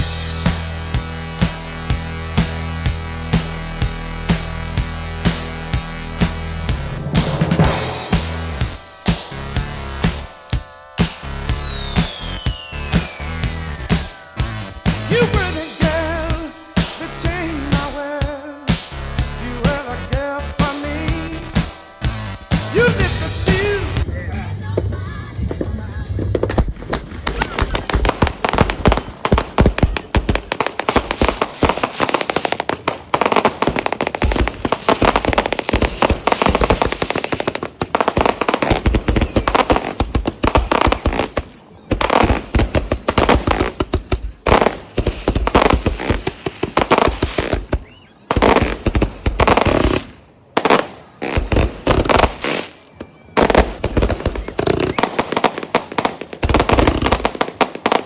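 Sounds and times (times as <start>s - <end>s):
fireworks cracking and popping: 1.4s - 19.9s, 20.6s - 58.0s.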